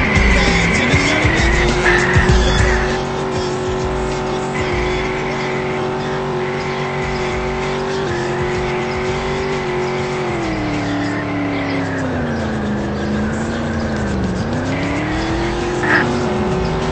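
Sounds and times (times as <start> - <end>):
car engine at high revs: 0.0 - 16.9
tyres squealing: 0.0 - 16.9.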